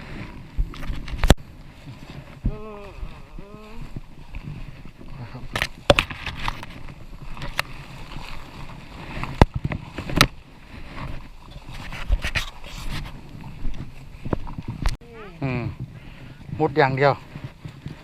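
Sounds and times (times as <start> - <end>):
rustling through undergrowth: 0.0 - 18.0.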